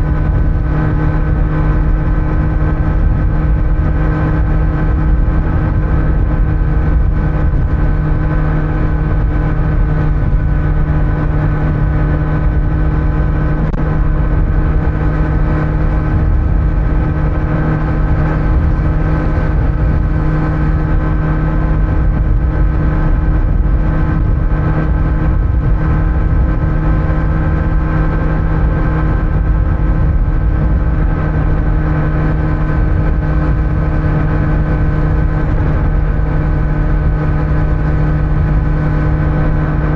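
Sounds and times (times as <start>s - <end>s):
motorcycle engine cruising: 0.0s - 39.9s
road rumble: 0.0s - 39.9s.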